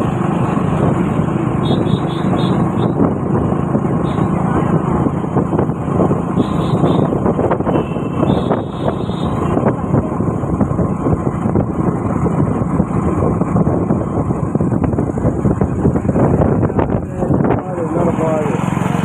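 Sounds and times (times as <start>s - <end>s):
motorcycle engine: 0.0s - 19.0s
wind on microphone: 2.5s - 18.3s.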